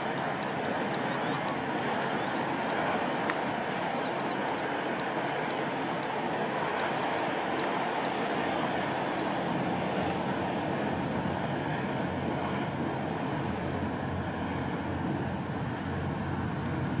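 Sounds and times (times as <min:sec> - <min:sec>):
boat engines droning: 0:00.0 - 0:17.0
faint steady hum: 0:00.0 - 0:17.0.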